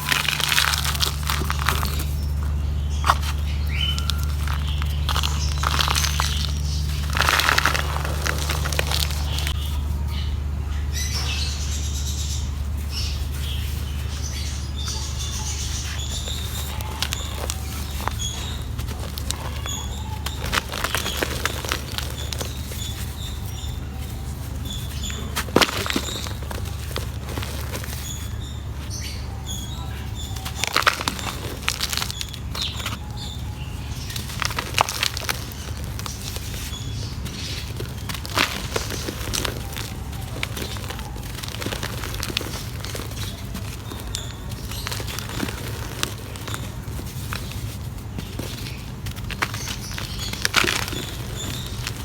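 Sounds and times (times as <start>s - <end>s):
dry mud crumbling: 0.0s - 10.6s, 12.3s - 52.0s
steady low hum: 0.0s - 52.0s.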